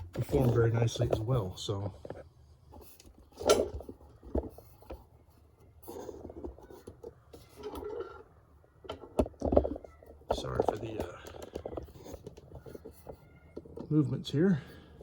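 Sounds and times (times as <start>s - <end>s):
objects knocking and clattering: 0.0s - 13.9s.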